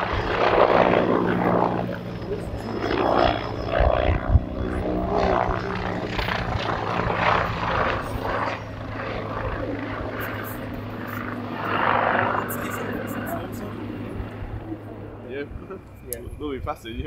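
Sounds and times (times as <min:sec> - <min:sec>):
helicopter rotor and turbine: 0:00.0 - 0:17.0.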